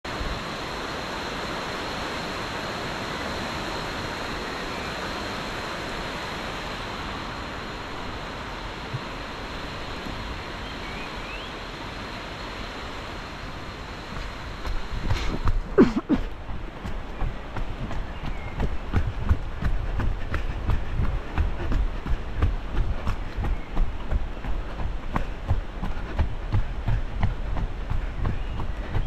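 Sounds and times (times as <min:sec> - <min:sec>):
water rushing: 0:00.1 - 0:29.0.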